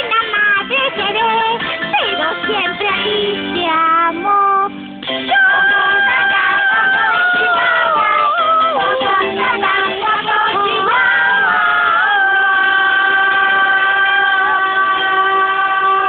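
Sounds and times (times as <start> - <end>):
cartoon song melody: 0.0 - 16.0.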